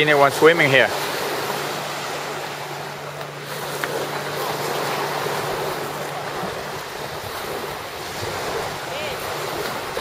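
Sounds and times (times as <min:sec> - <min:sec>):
waves washing onto beach: 0:00.0 - 0:10.0
wind buffeting microphone: 0:00.0 - 0:10.0.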